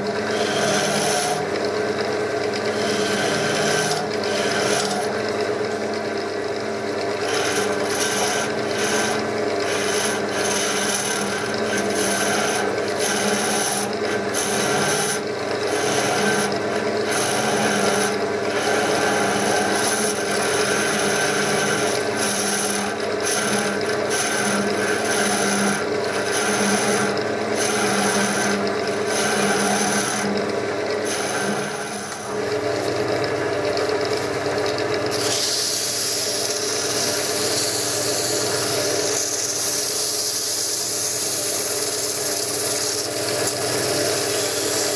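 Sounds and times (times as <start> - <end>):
tool rasping against wood: 0.0 - 1.9, 2.5 - 5.5, 7.2 - 33.0, 35.1 - 44.9
wood lathe humming: 0.0 - 44.9.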